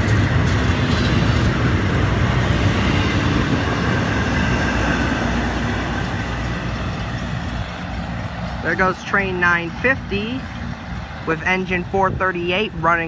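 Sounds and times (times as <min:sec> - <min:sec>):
freight cars rolling on rails: 0:00.0 - 0:13.0.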